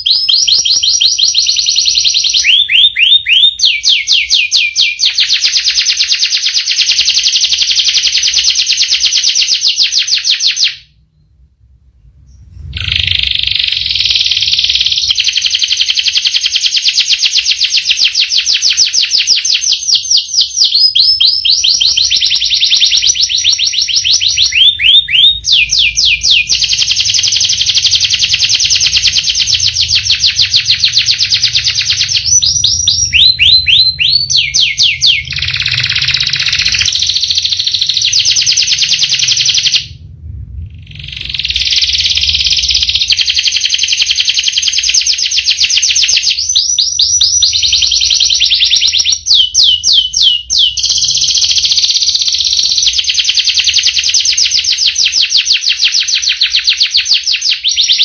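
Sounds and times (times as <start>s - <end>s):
canary singing trills: 0.0s - 11.4s, 12.2s - 39.9s, 40.9s - 58.0s.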